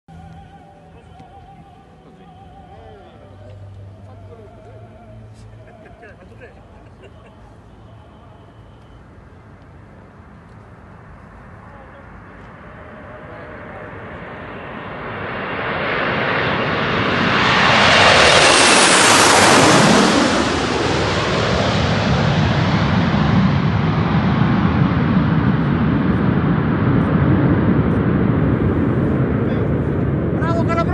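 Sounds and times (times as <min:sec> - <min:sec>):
jets flying overhead: 0:00.1 - 0:30.9
steady rumble: 0:00.1 - 0:30.9.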